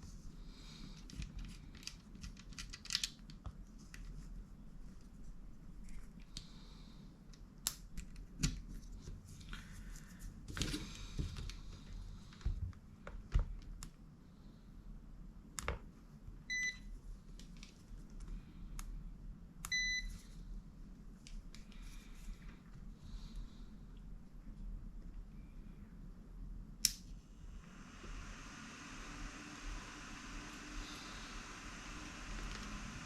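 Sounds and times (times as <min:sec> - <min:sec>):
steady low hum: 0:03.4 - 0:33.0.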